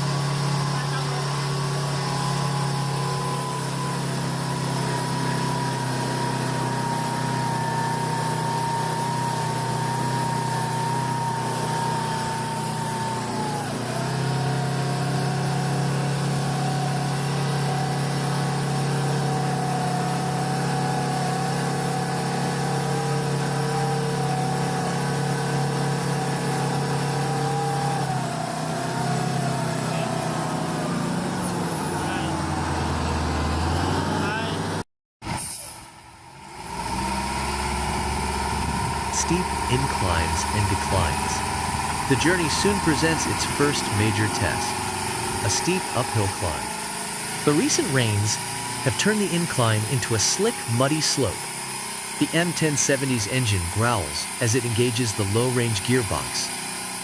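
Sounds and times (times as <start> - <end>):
heavy truck engine under load: 0.0 - 34.8, 36.4 - 48.9.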